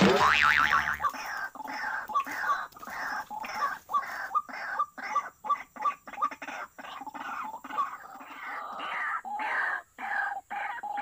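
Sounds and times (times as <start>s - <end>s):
waterhen harsh repeated calls: 0.0s - 11.0s.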